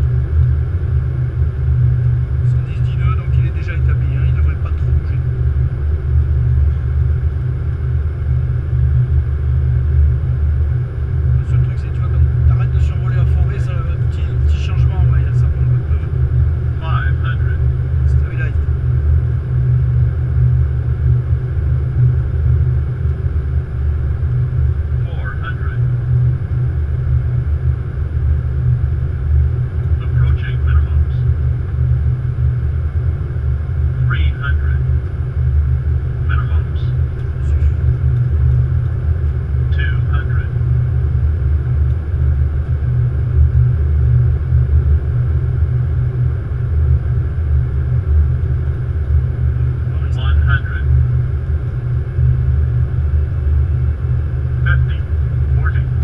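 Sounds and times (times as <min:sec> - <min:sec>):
airliner cockpit rumble: 0:00.0 - 0:56.0.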